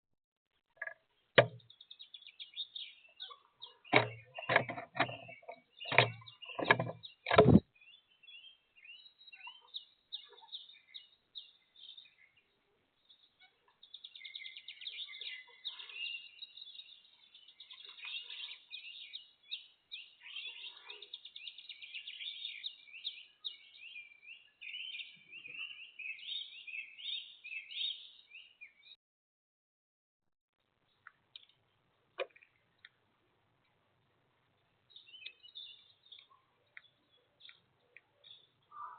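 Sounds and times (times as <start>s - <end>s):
small birds chirping and trilling: 0.8s - 29.0s, 30.8s - 38.9s.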